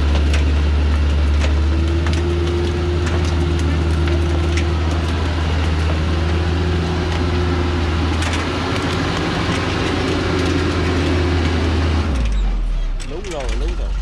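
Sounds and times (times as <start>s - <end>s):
truck diesel engine working hard: 0.0s - 14.0s.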